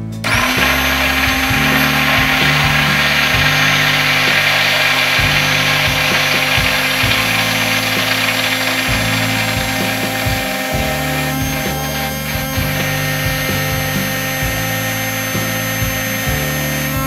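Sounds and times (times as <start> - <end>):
stick blender running: 0.0 - 17.0.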